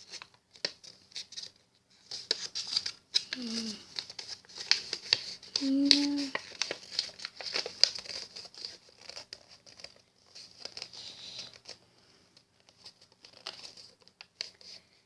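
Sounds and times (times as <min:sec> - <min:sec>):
paper rustling and crinkling: 0:00.0 - 0:11.9, 0:12.6 - 0:15.0.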